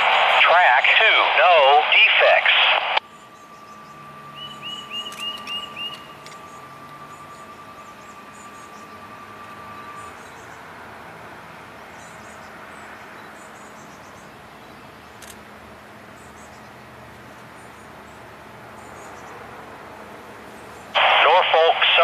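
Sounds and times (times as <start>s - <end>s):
faint high birds chirping: 3.0s - 20.9s
songbird chirping: 3.0s - 20.9s.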